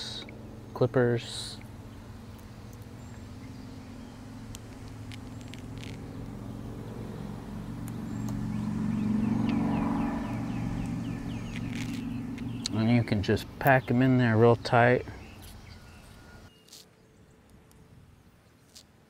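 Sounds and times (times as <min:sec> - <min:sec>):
vehicle engine hum passing: 0:01.4 - 0:16.8.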